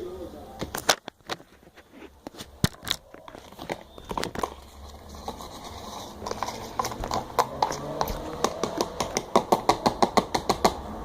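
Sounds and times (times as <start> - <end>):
hands handling plastic items: 0.6 - 9.6.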